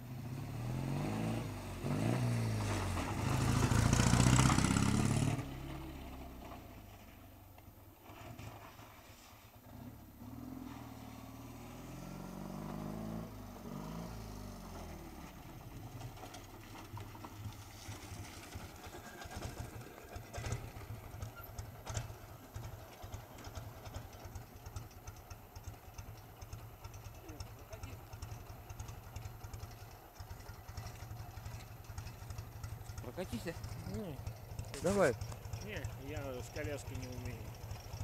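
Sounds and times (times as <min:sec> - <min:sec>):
motorcycle engine revving and idling: 0:00.0 - 0:07.3, 0:09.6 - 0:38.0.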